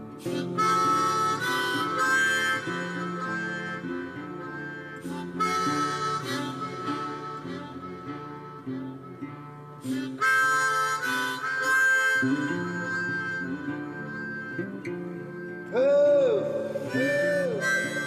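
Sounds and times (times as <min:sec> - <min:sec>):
acoustic guitar: 0:00.0 - 0:18.0
harmonica playing: 0:00.0 - 0:18.0.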